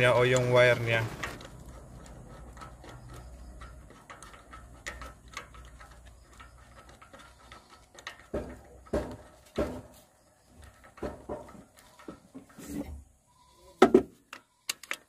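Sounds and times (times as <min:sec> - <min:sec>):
light clicks and knocks: 0:00.0 - 0:12.9.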